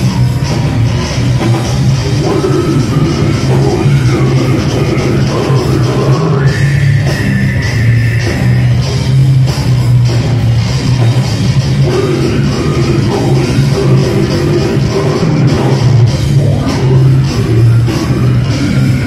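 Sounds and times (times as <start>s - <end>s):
death metal band playing: 0.0s - 19.0s
metal vocals: 0.0s - 19.0s.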